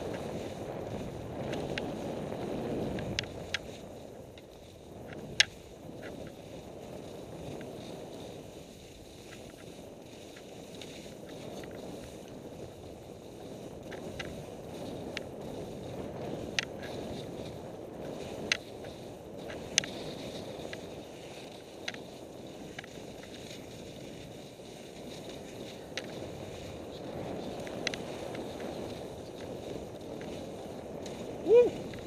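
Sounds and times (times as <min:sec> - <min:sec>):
skis hissing on snow: 0:00.0 - 0:32.0.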